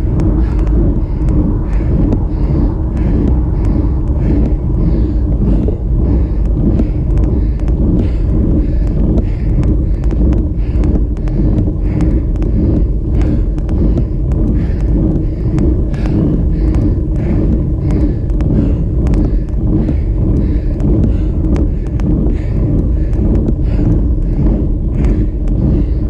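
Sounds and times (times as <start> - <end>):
road rumble: 0.0 - 26.0
wind noise: 0.0 - 26.0.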